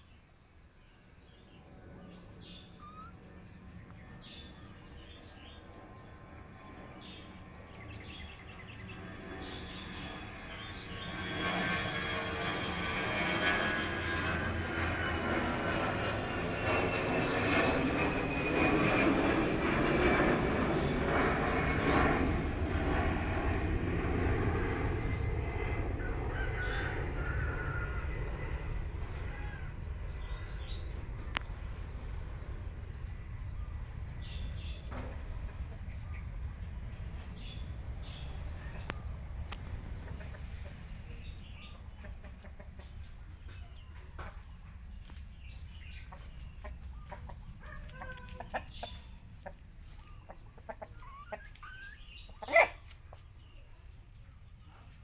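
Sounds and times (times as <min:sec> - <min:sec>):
passing engine drone: 0:01.2 - 0:47.6.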